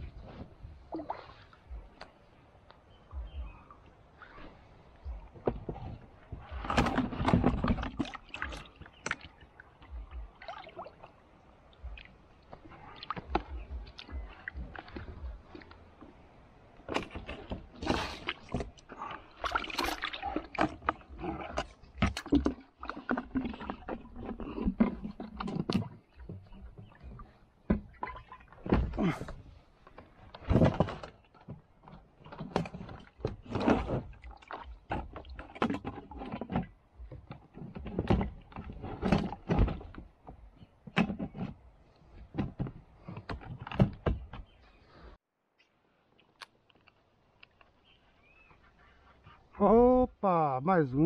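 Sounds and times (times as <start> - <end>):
paddle splashing in water: 0.0 - 45.1.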